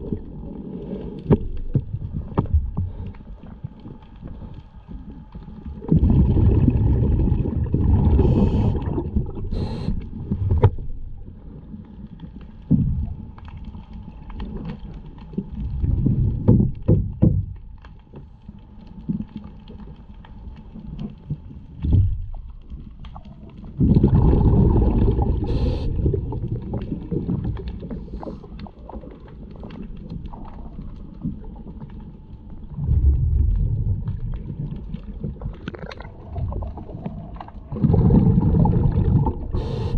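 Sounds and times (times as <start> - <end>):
underwater bubbles rumbling: 0.0 - 39.9.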